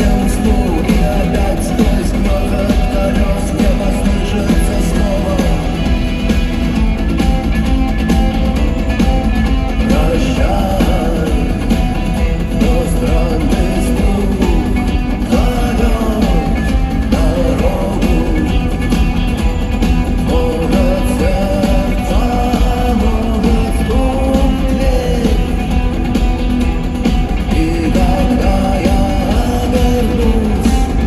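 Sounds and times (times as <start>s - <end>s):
live rock band: 0.0s - 31.0s.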